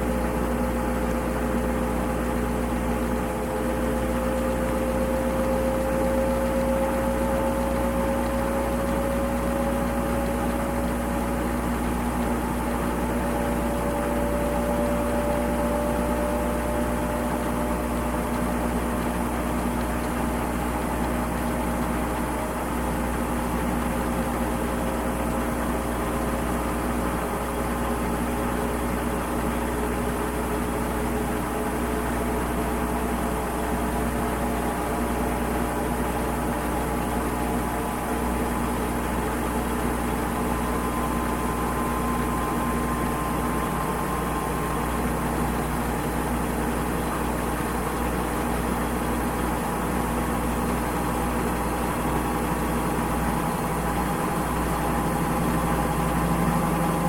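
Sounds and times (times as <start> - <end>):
constant hum: 0.0 - 57.0
washing machine motor whine: 0.0 - 57.0.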